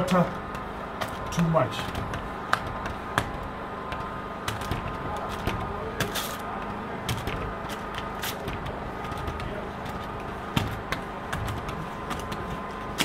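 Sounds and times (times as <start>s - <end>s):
steady background hum: 0.0s - 13.0s
squeegee scraping on glass: 1.8s - 12.6s.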